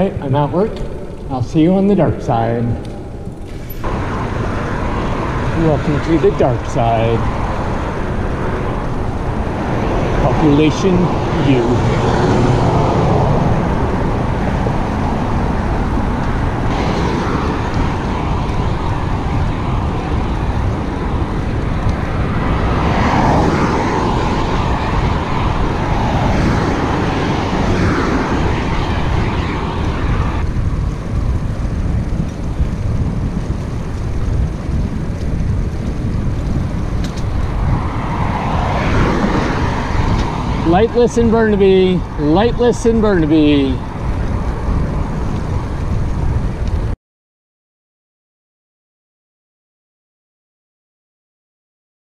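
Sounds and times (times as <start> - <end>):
road traffic passing: 0.0 - 47.0
wind buffeting microphone: 0.0 - 47.0.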